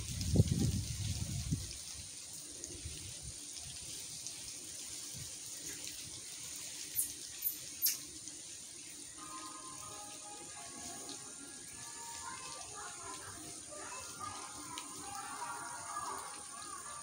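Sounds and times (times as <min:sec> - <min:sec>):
faint hiss: 0:00.0 - 0:17.0
water dripping: 0:00.0 - 0:17.0.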